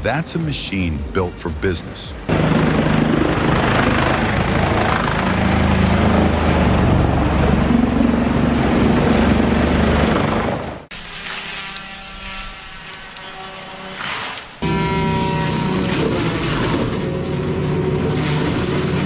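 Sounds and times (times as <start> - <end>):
diesel engine drone: 0.0 - 10.9, 14.6 - 19.0.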